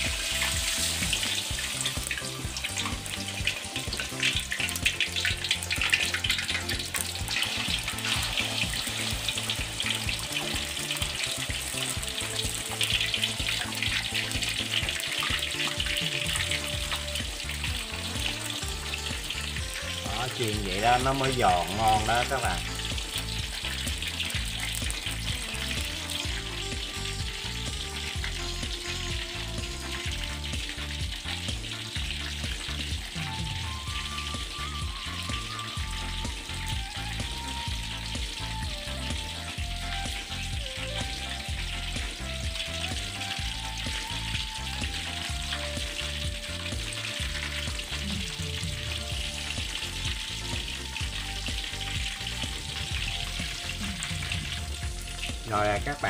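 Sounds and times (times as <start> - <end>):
background music with beat: 0.0 - 56.0
fish sizzling in hot oil: 0.0 - 56.0.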